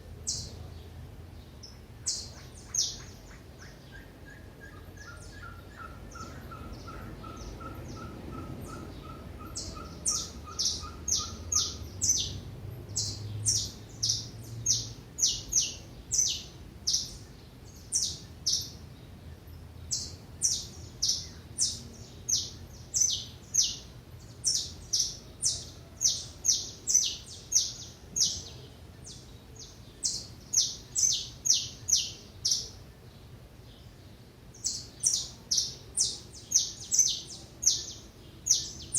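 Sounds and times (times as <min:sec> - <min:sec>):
small birds calling: 0:00.2 - 0:38.9.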